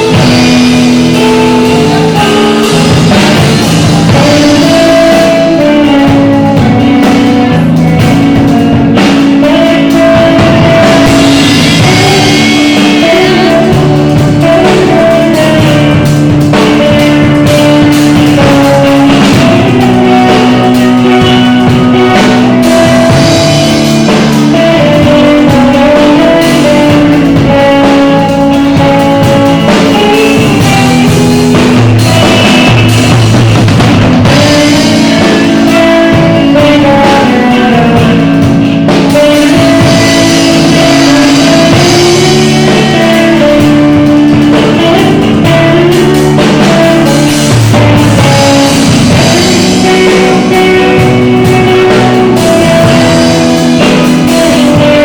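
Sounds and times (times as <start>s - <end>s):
drum kit: 0.0s - 55.0s
guitar melody: 0.0s - 55.0s.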